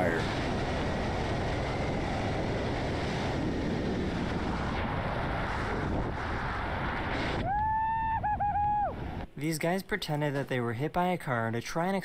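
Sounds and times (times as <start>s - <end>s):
rushing wind: 0.0s - 10.4s.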